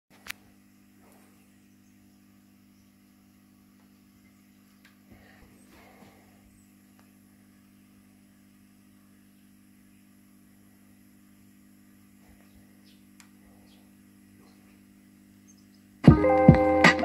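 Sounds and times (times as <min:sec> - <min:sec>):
faint mains hum: 0:00.1 - 0:17.0.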